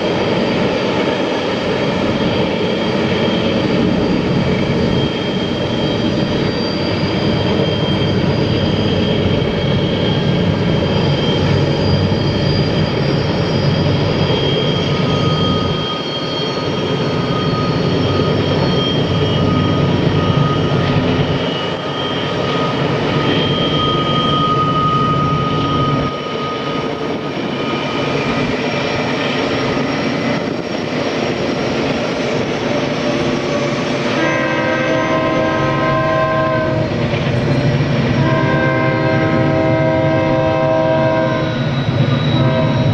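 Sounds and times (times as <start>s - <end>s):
train rumbling: 0.0s - 42.9s.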